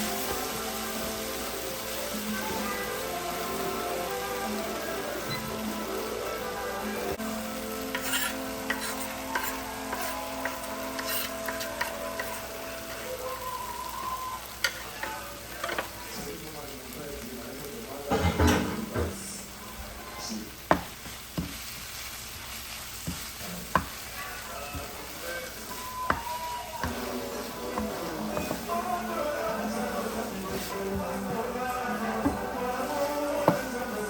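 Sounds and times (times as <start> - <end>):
greens sizzling in a pan: 0.0 - 34.0.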